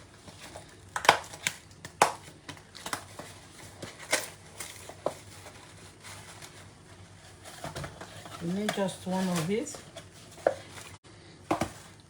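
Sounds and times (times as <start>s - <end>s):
tea leaves clicking and crinkling: 0.0s - 11.0s.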